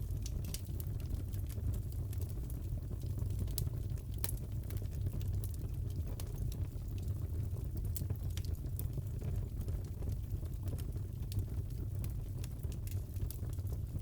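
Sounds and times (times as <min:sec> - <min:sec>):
fire popping and crackling: 0:00.0 - 0:14.0
wood fire rumbling: 0:00.0 - 0:14.0.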